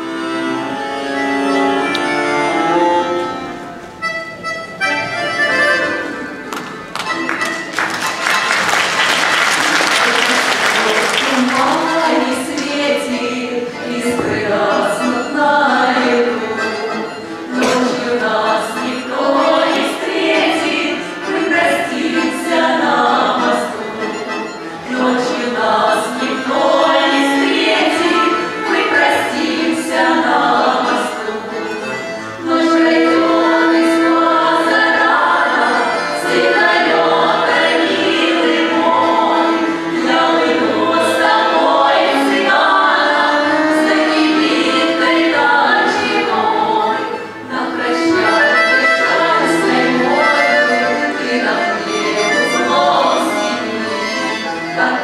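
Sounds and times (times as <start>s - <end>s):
female vocal ensemble singing: 9.0s - 55.0s.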